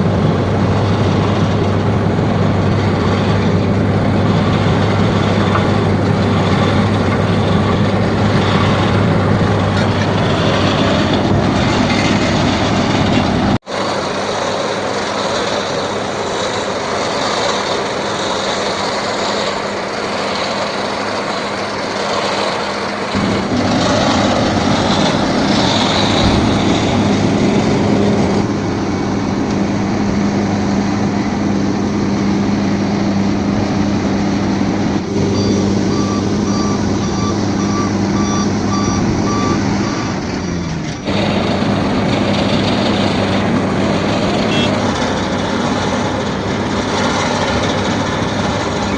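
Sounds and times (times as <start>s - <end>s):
heavy machinery engines humming: 0.0s - 48.9s.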